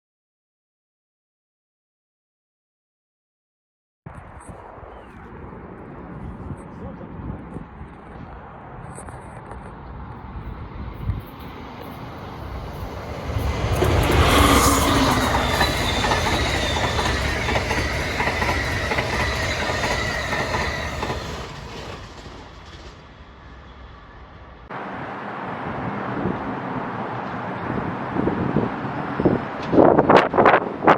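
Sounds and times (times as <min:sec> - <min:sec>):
passenger train rumbling past: 0:05.3 - 0:30.9.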